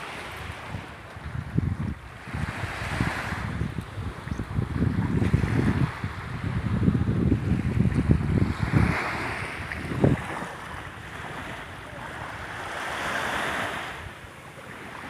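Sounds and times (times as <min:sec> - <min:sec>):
small waves washing: 0:00.0 - 0:15.0
wind buffeting microphone: 0:00.0 - 0:15.0.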